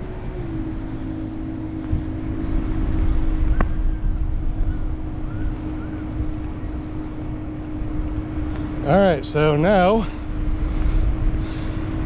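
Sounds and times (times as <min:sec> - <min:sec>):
steady motor hum: 0:00.0 - 0:12.0
wind buffeting microphone: 0:00.0 - 0:12.0.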